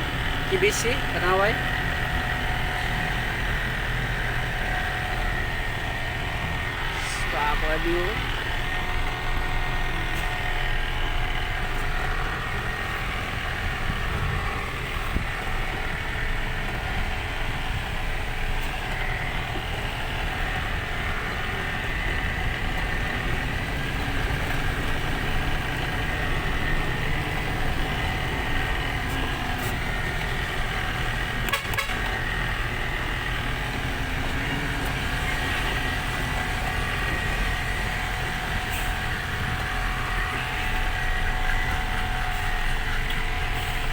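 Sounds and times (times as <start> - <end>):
truck engine and road rumble: 0.0 - 43.9.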